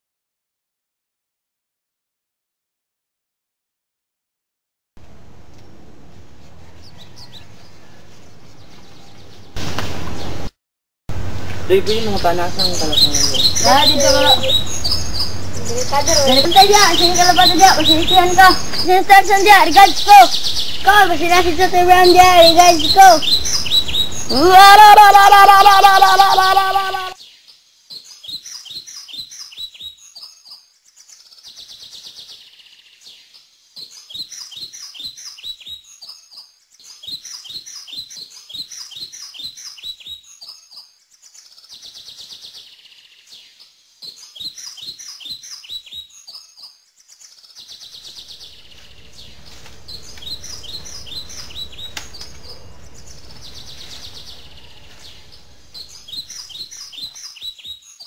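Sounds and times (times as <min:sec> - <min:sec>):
birds chirping: 0:05.4 - 0:10.5, 0:11.6 - 0:58.0.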